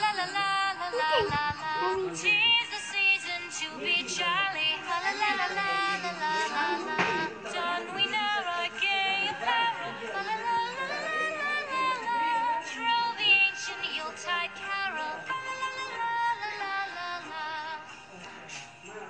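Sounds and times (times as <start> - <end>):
song with high singing voice: 0.0 - 19.0.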